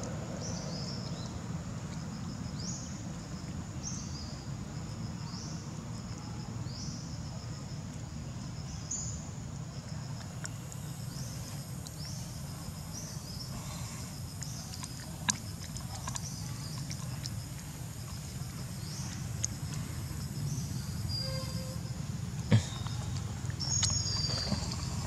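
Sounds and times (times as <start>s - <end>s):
insects and birds chirping: 0.0s - 25.0s.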